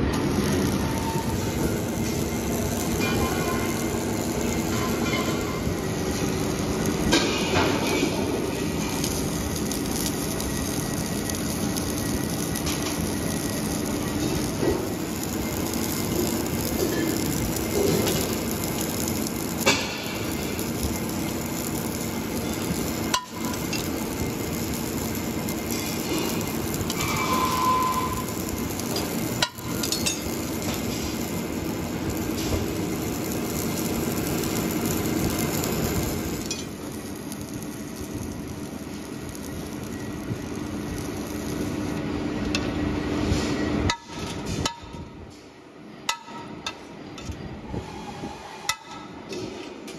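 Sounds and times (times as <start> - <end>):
welding arc crackling sizzle: 0.0 - 49.9.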